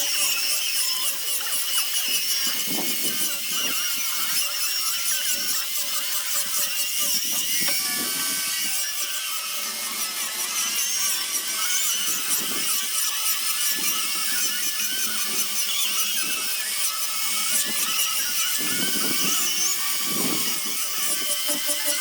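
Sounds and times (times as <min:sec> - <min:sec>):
power sander on wood: 0:00.0 - 0:22.0.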